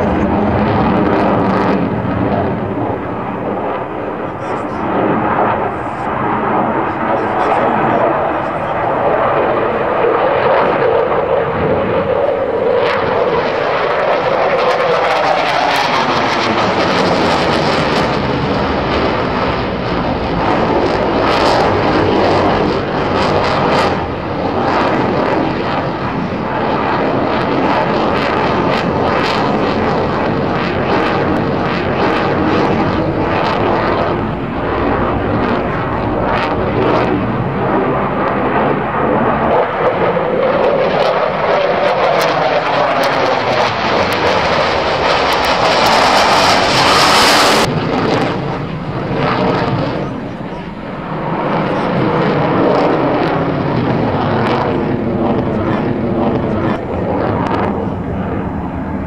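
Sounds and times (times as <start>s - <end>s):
fighter jet engine roar: 0.0s - 59.0s.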